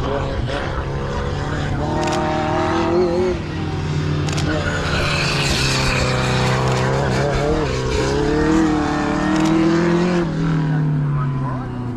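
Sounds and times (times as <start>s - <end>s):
racing car engine revving: 0.0s - 11.9s.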